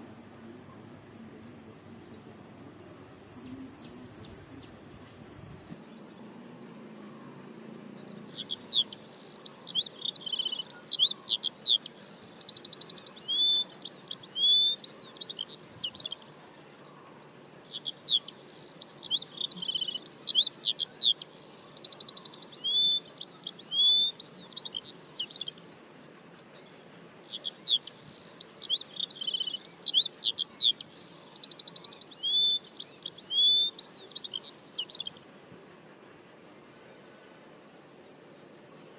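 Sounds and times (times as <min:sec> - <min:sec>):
faint background hiss: 0:00.0 - 0:38.9
songbird singing: 0:00.0 - 0:38.9.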